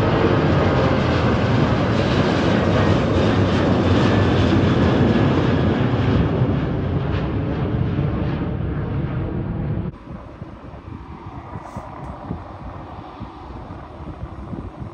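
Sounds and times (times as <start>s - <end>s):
jet engines climbing overhead: 0.0s - 14.9s.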